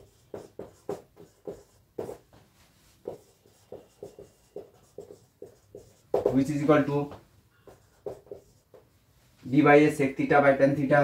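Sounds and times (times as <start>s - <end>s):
marker pen writing on whiteboard: 0.0s - 9.1s.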